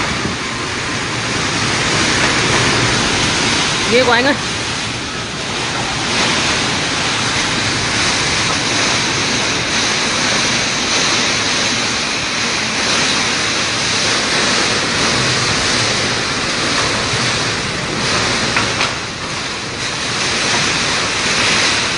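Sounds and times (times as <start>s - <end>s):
heavy rain: 0.0s - 21.9s
strong wind gusts: 0.0s - 21.9s.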